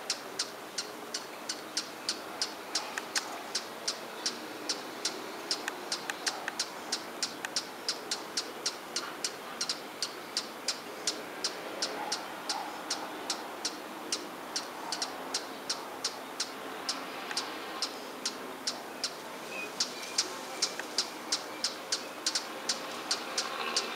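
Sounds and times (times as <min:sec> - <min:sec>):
hummingbird chip call: 0:00.0 - 0:23.9.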